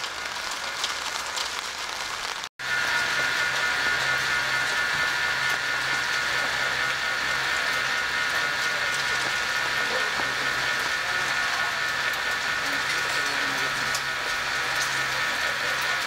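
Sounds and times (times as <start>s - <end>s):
skewers sizzling on a grill: 0.0s - 16.0s
steady whine: 0.0s - 16.0s.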